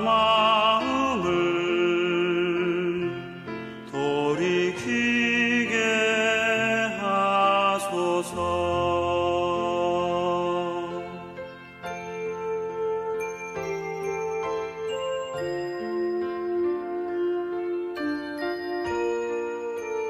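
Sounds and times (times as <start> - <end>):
slow instrumental worship music: 0.0 - 20.0.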